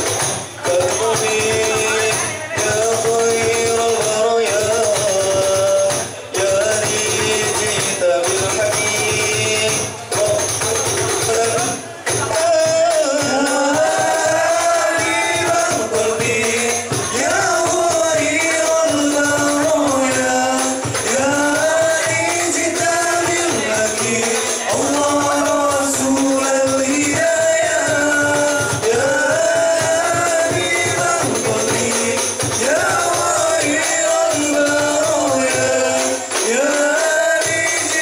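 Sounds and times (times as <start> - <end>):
jingling frame drums: 0.0 - 38.0
men singing devotional song: 0.0 - 38.0.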